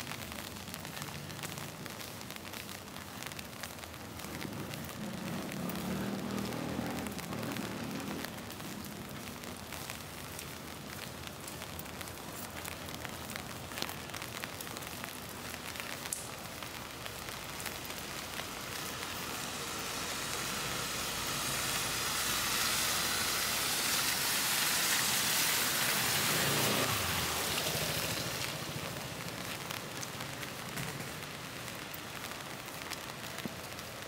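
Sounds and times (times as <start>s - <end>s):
rain drops ticking: 0.0s - 34.0s
steady rain: 0.0s - 34.0s
tyres hissing on wet road: 0.0s - 34.0s.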